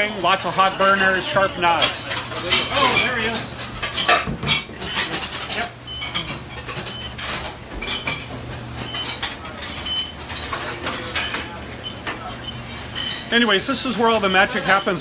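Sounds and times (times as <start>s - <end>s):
exhaust fan hum: 0.0s - 15.0s
pots and pans clattering: 0.0s - 15.0s.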